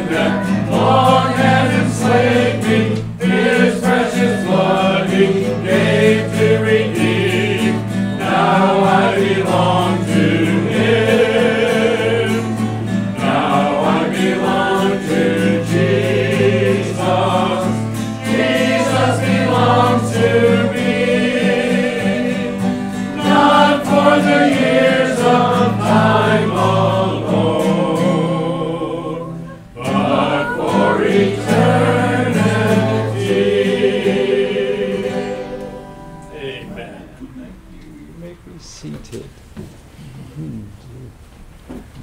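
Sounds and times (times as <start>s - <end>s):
congregation singing a hymn: 0.0s - 37.5s.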